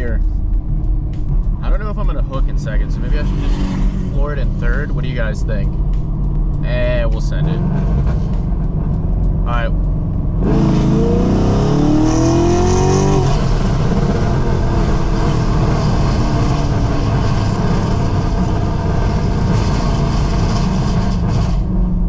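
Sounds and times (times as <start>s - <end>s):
car engine accelerating at full throttle: 0.0s - 22.0s.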